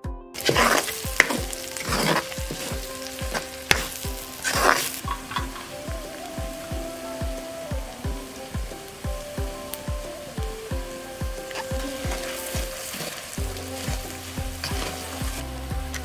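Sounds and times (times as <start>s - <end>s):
spices sizzling in hot oil: 0.4s - 16.0s.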